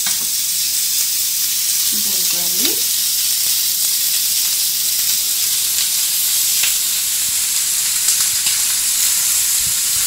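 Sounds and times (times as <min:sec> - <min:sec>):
burger patties sizzling on grill: 0:00.0 - 0:10.0.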